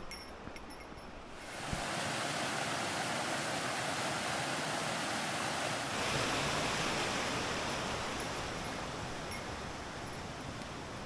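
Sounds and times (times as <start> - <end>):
fast-flowing river rushing: 1.3 - 11.0.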